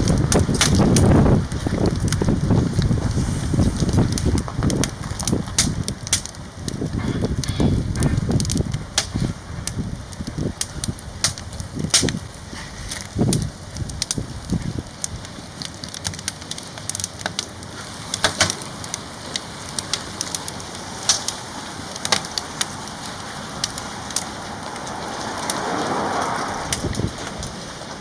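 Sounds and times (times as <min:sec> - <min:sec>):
fire hissing: 0:00.0 - 0:28.0
firewood crackling and popping: 0:00.0 - 0:28.0.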